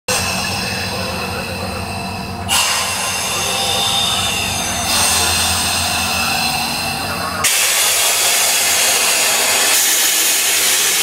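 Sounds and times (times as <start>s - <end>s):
boat machinery humming: 0.1s - 11.0s
high squeal and hiss: 0.1s - 11.0s.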